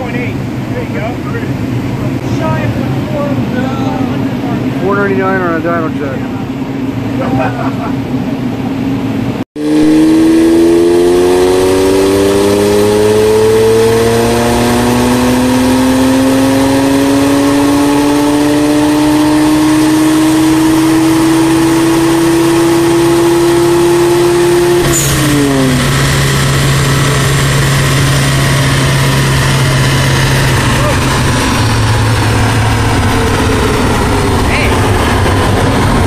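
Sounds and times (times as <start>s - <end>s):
car engine at full throttle: 0.0s - 36.0s.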